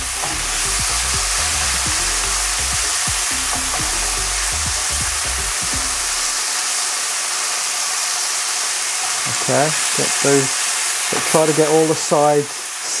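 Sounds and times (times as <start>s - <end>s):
beef sizzling in a wok: 0.0s - 5.4s, 6.1s - 13.0s.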